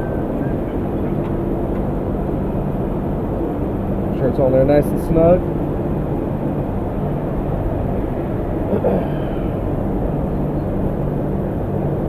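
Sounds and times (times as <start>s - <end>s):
machinery rumbling and humming: 0.0s - 12.0s.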